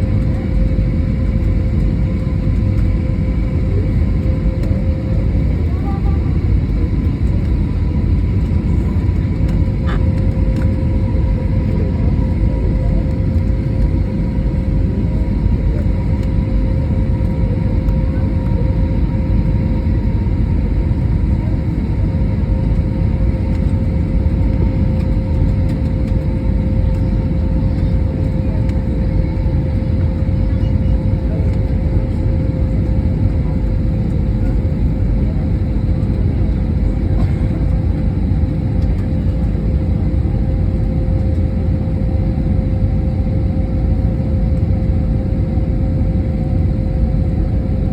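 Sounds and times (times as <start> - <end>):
constant hum: 0.0 - 47.9
jet cabin rumble: 0.0 - 47.9.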